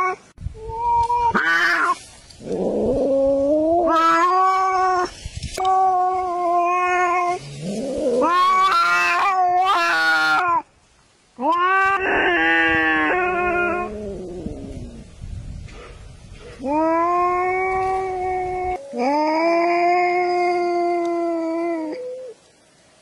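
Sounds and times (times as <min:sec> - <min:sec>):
cats yowling: 0:00.0 - 0:10.6, 0:11.4 - 0:14.7, 0:16.6 - 0:22.4.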